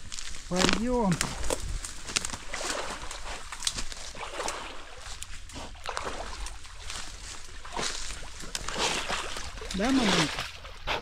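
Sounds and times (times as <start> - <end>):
water splashing and swirling: 0.5 - 11.0.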